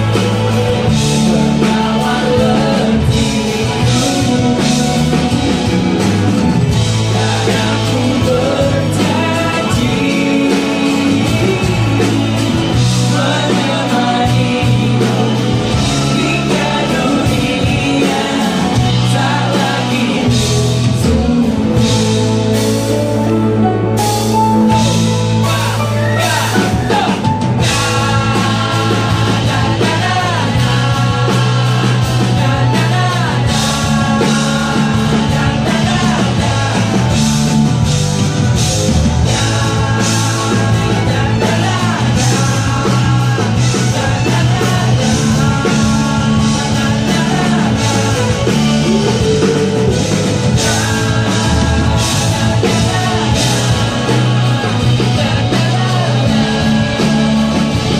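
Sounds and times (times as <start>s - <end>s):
drum kit beat: 0.0s - 57.9s
electric guitar: 0.0s - 57.9s
keyboard: 0.0s - 57.9s
man singing: 0.0s - 57.9s.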